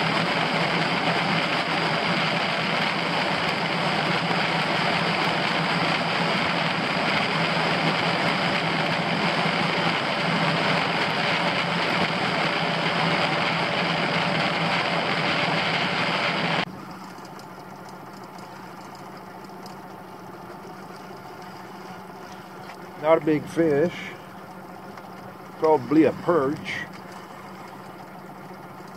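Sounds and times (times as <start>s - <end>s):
low engine hum: 0.0s - 28.9s
outboard motor running: 0.0s - 28.9s.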